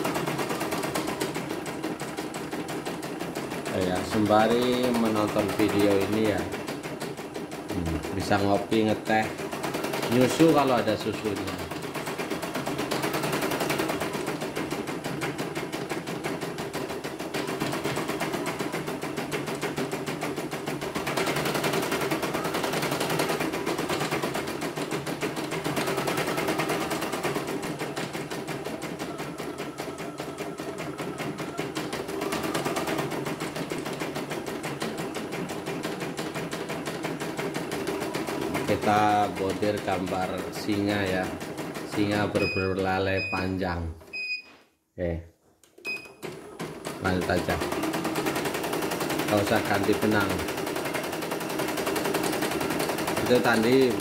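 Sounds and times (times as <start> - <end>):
embroidery machine stitching: 0.0 - 42.9, 45.8 - 54.0.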